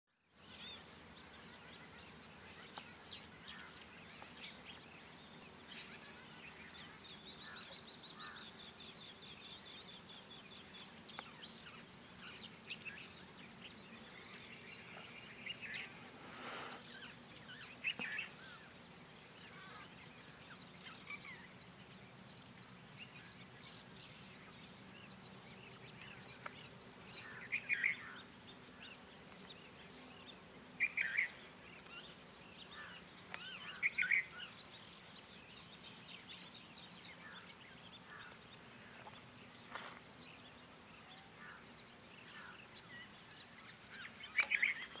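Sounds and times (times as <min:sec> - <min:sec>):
low background noise: 0:00.1 - 0:45.0
birds chirping: 0:00.3 - 0:45.0.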